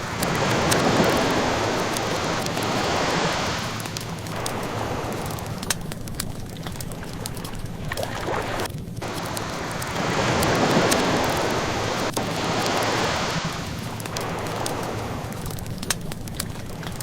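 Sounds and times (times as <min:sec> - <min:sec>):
burning wood crackling: 0:00.0 - 0:17.0
ocean waves washing ashore: 0:00.0 - 0:17.0.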